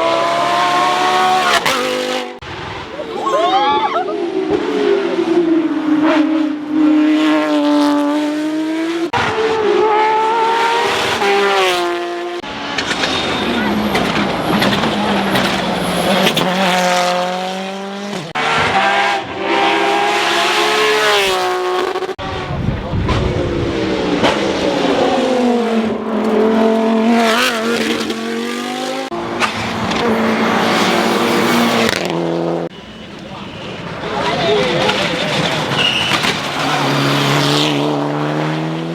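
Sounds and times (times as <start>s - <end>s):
race car engine at high revs: 0.0s - 3.2s, 3.8s - 32.8s, 33.4s - 38.9s.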